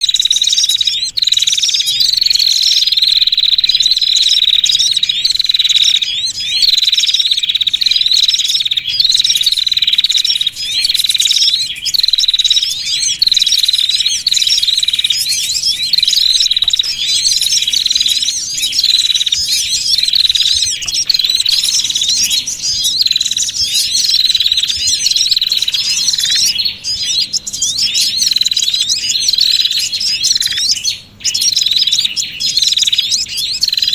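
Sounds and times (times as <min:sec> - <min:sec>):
songbirds chirping and trilling: 0:00.0 - 0:33.9
steady high-pitched whine: 0:00.0 - 0:33.9.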